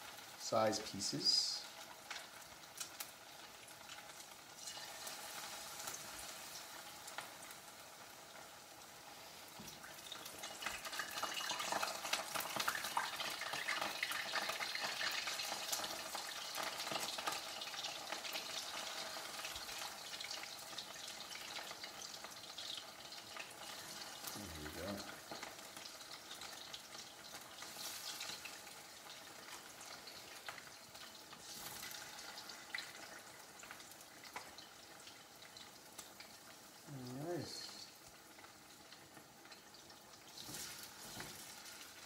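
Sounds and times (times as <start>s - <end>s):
chicken sizzling in hot oil: 0.0s - 42.0s.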